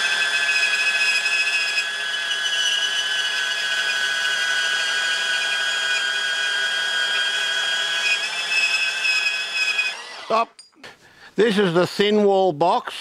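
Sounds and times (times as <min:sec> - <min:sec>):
bandsaw cutting steel: 0:00.0 - 0:10.6.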